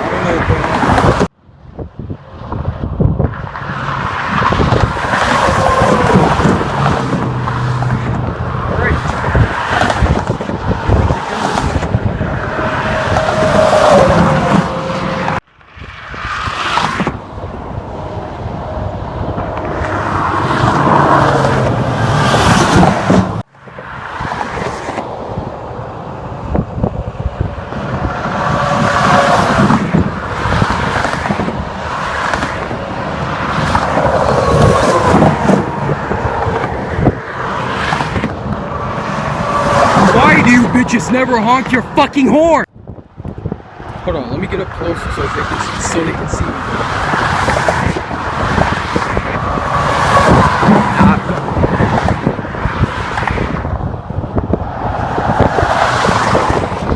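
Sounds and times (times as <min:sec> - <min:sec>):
vehicles rushing past on freeway: 0:00.0 - 0:56.9.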